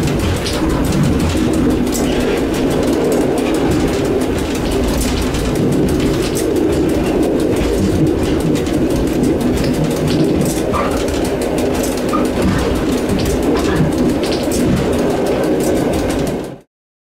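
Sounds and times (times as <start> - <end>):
rattles and clicks: 0.0 - 16.7
train motors and wheels rumbling: 0.0 - 16.7.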